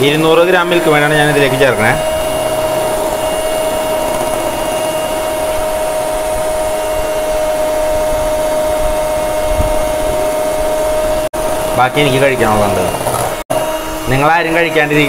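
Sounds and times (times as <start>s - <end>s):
electric hand mixer whine: 0.0s - 15.0s.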